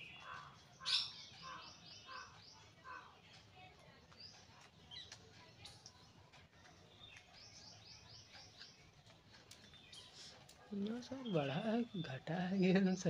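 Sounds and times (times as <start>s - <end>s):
bird chirping: 0.0s - 3.2s, 4.1s - 13.0s.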